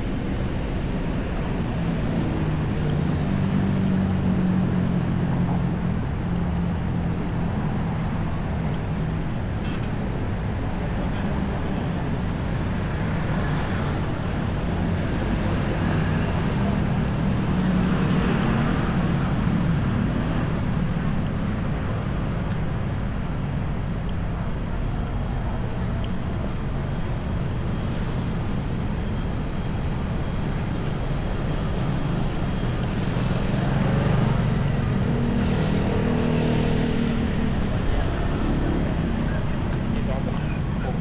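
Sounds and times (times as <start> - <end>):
low rumble of passing traffic: 0.0 - 41.0.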